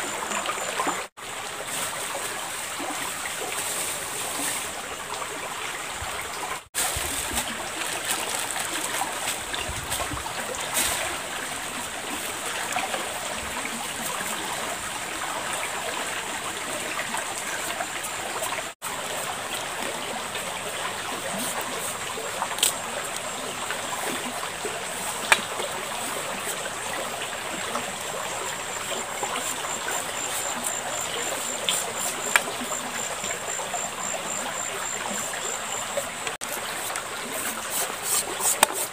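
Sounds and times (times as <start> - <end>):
shallow river flowing: 0.0 - 38.9.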